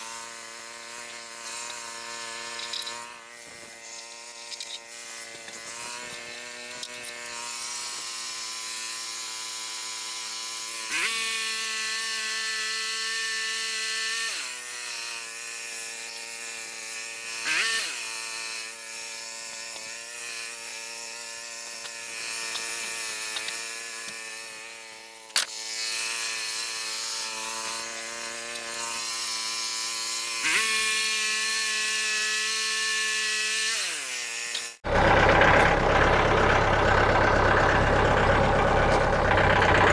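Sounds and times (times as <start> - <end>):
small motor whining: 0.0 - 39.9.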